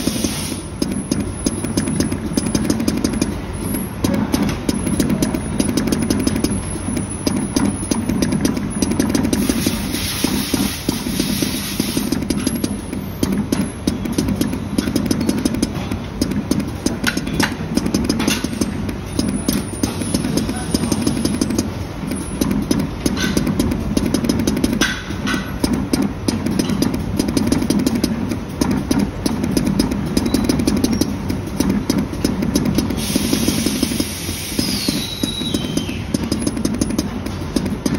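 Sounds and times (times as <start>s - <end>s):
machine clicking: 0.0s - 37.9s
machine mechanical hum: 0.0s - 37.9s.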